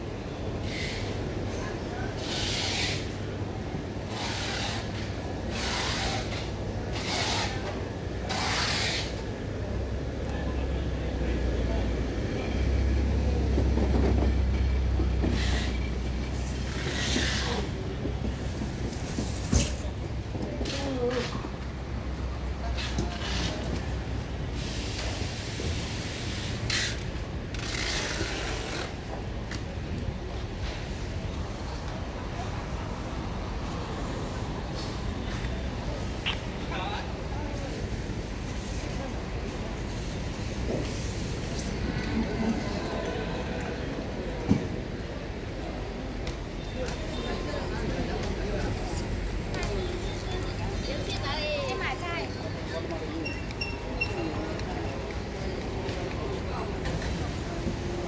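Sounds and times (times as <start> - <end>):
low rumble of market noise: 0.0 - 58.0.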